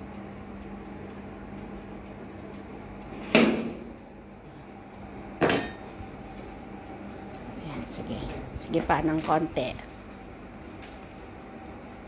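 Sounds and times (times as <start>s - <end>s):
toaster oven humming: 0.0s - 12.0s.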